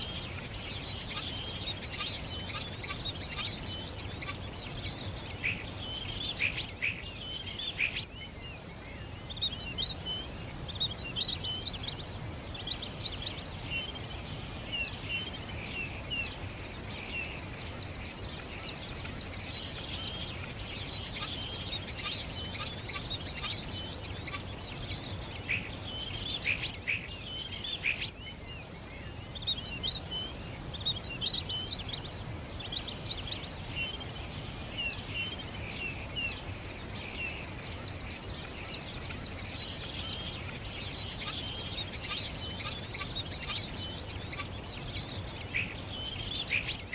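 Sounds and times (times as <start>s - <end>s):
low background noise: 0.0s - 46.9s
small birds chirping: 0.0s - 46.9s.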